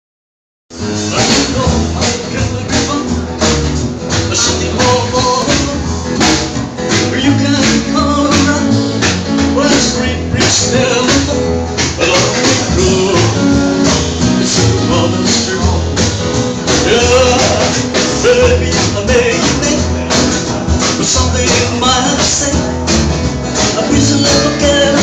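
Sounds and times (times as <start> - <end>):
bass line: 0.7 - 25.0
percussive beat: 1.1 - 25.0.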